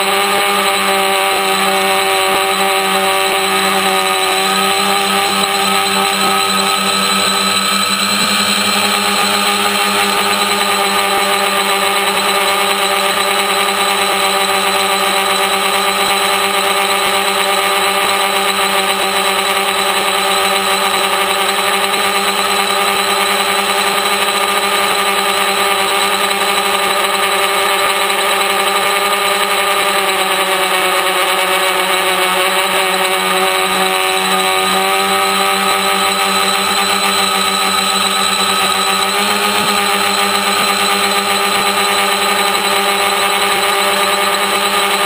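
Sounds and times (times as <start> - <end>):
propellers rushing: 0.0 - 26.9, 32.8 - 45.0
drone motors whining: 0.0 - 45.0.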